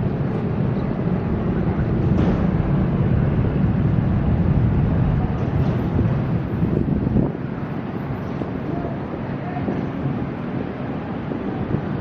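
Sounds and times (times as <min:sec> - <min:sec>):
train passing rumble: 0:00.0 - 0:12.0.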